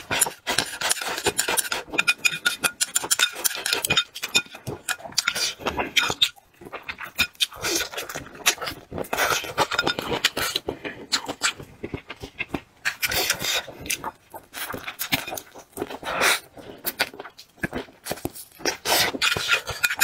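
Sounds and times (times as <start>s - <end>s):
wet chewing and lip-smacking: 0.0s - 20.0s.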